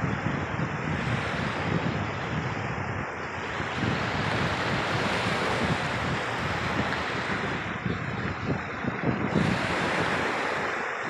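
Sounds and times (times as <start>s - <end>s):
waves washing on sandy beach: 0.0s - 11.0s
wind buffeting microphone: 0.0s - 11.0s.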